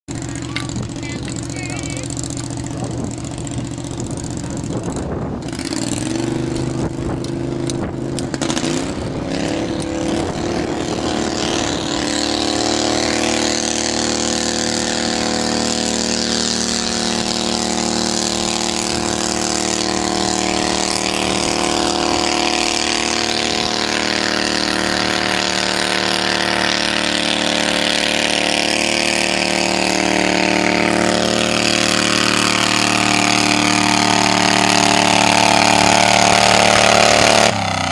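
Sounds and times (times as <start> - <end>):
tractor engine revving: 0.0 - 37.9.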